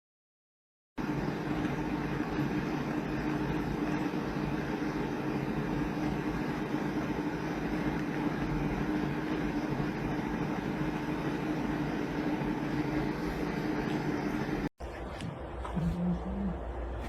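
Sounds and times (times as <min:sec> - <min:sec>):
machine hum: 0:01.0 - 0:17.0.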